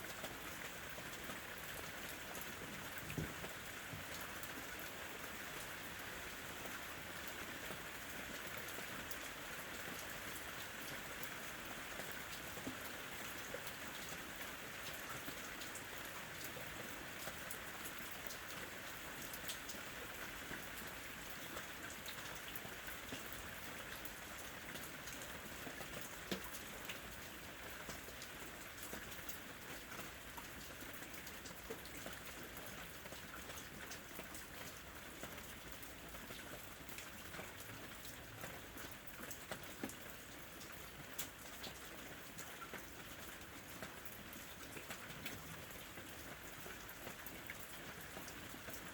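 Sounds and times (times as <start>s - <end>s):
raindrops ticking on a surface: 0.0s - 48.9s.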